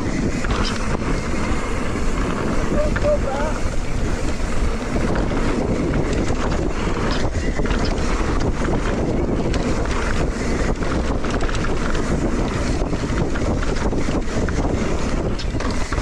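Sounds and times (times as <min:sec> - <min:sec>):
bike clicks and rattles: 0:00.0 - 0:16.0
tyres rumbling on dirt: 0:00.0 - 0:16.0
wind buffeting microphone: 0:00.0 - 0:16.0.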